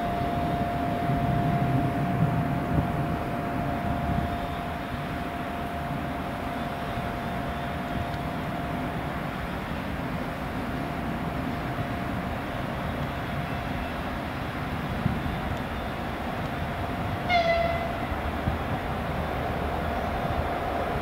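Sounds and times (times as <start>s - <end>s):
distant train rumble: 0.0s - 21.0s
steady high whine: 0.0s - 21.0s.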